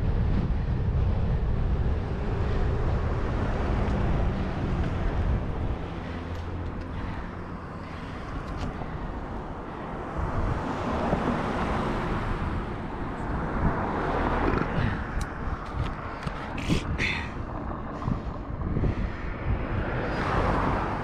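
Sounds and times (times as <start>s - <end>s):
hiss of passing traffic: 0.0s - 21.0s
road noise rumble: 0.0s - 21.0s.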